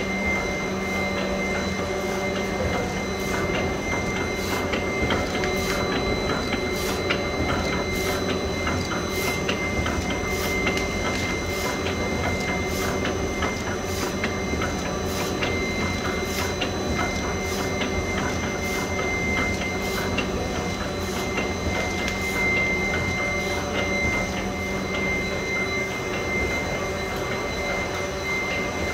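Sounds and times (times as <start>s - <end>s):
high steady whine: 0.0s - 28.9s
printing press drone: 0.0s - 28.9s.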